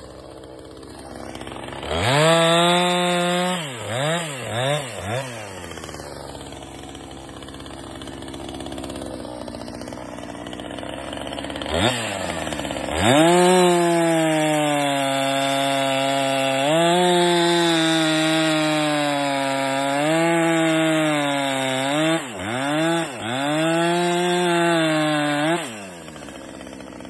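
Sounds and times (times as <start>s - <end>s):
chainsaw cutting through log: 0.0s - 27.0s.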